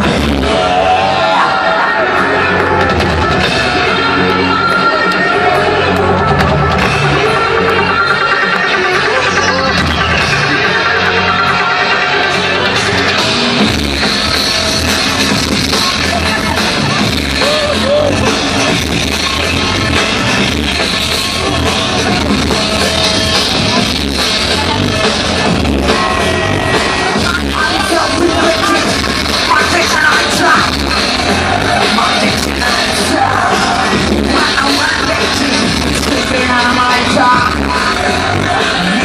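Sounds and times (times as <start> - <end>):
live rock band playing loud: 0.0 - 39.0.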